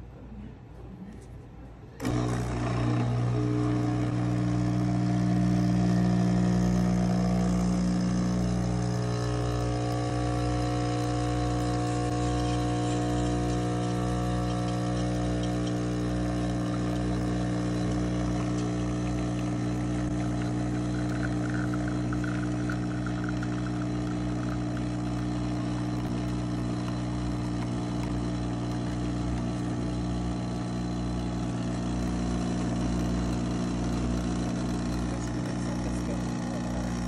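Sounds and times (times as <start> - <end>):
espresso machine pump buzzing: 2.0 - 37.0.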